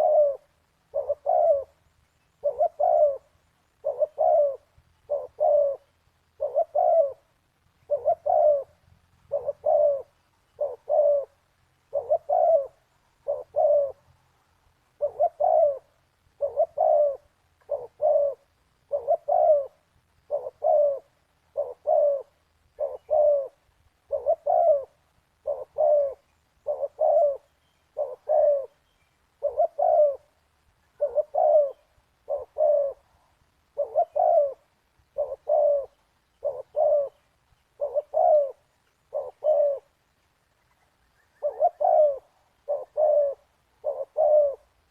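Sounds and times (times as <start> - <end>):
dove cooing: 0.0 - 14.2, 14.8 - 40.0, 41.2 - 44.9.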